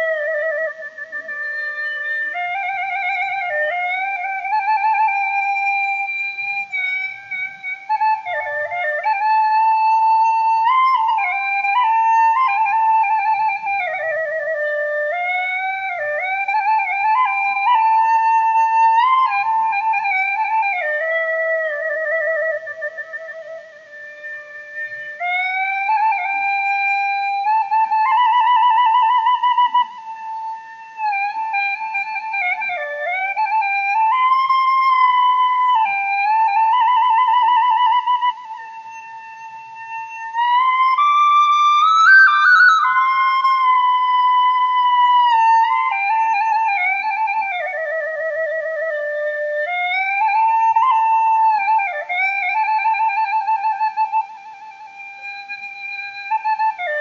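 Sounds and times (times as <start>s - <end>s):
slow flute-like melody: 0.0s - 57.0s.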